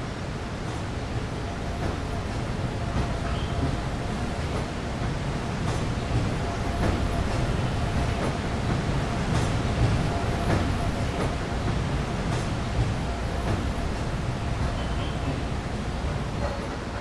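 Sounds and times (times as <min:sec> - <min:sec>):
funicular car rumbling on track: 0:00.0 - 0:17.0.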